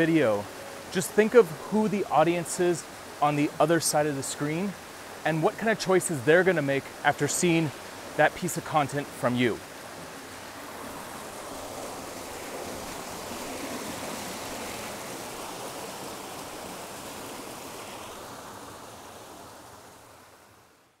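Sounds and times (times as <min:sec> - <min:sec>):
creek water running: 0:00.0 - 0:20.6.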